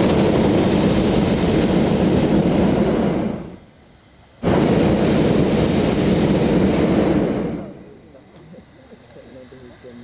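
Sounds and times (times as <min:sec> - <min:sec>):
propane burner blasts: 0:00.0 - 0:10.0.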